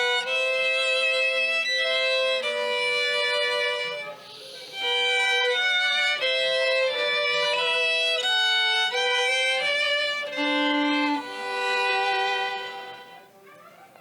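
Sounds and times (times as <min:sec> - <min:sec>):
solo violin slow melody: 0:00.0 - 0:13.6.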